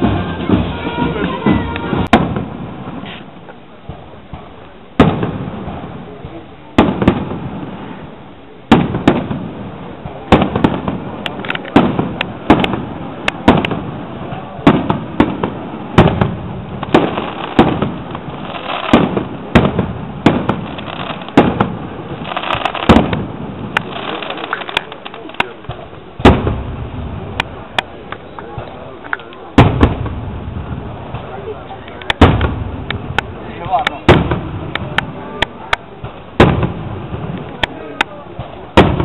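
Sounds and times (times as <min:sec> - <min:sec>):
fireworks bangs: 0:00.0 - 0:39.0
fireworks crackle: 0:00.0 - 0:39.0.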